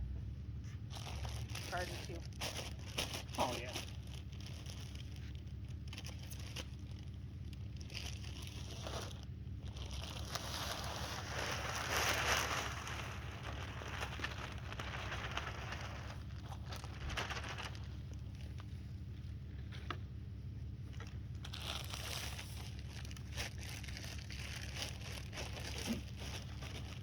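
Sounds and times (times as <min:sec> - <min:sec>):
plastic bags rustling: 0:00.8 - 0:19.1, 0:20.9 - 0:27.0.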